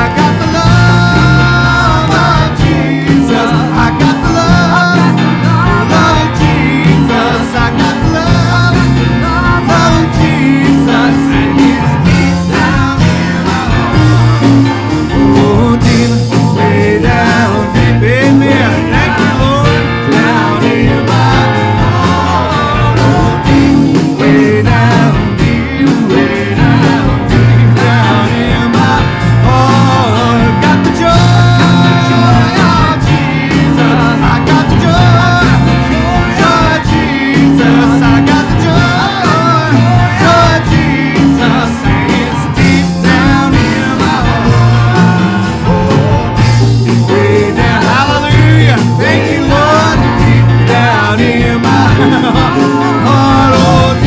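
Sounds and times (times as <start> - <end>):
gospel band with guitar: 0.0 - 54.0
person singing: 0.0 - 54.0.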